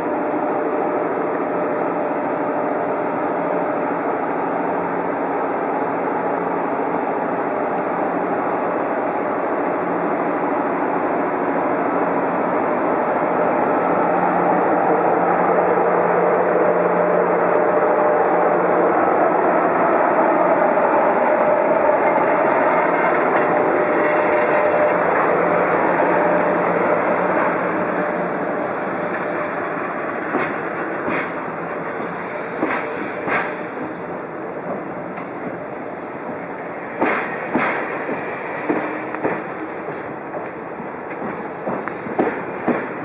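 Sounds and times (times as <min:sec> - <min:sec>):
electric locomotive hum: 0:00.0 - 0:43.0.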